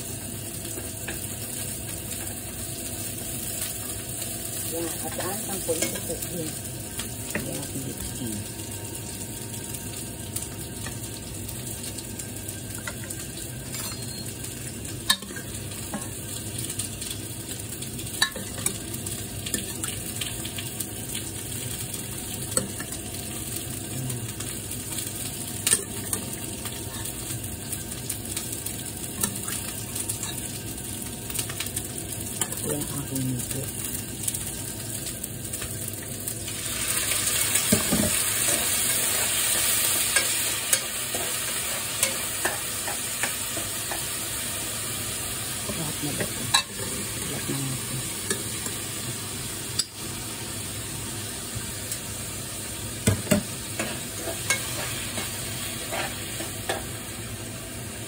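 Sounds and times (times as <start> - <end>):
onion sizzling in oil: 0.0 - 58.0.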